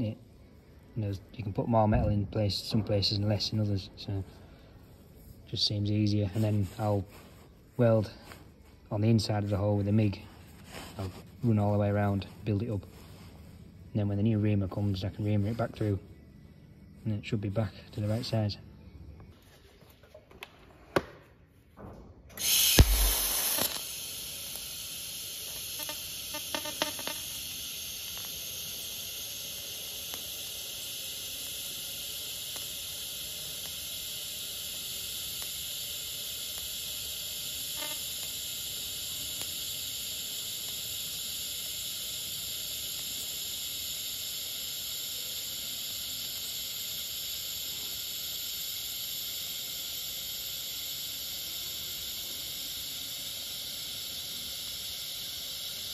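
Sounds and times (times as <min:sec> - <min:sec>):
welding arc hissing: 0:00.0 - 0:19.4, 0:22.3 - 0:55.9.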